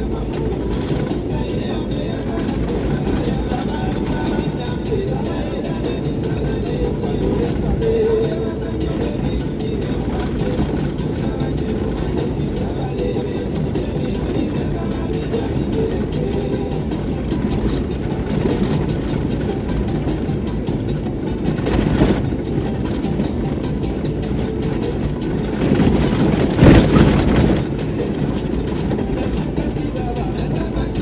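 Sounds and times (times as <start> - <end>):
vehicle on rough dirt road: 0.0 - 31.0.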